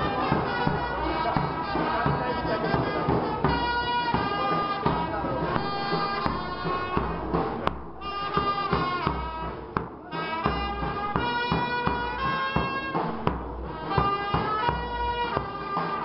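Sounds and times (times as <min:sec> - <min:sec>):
drum strikes: 0:00.0 - 0:16.0
reedy wind instrument melody: 0:00.0 - 0:16.0.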